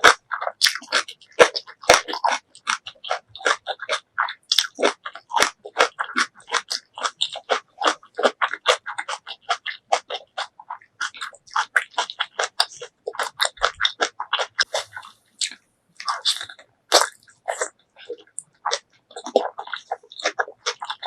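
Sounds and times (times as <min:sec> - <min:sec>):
crisp wet crunching and chewing: 0:00.0 - 0:21.0.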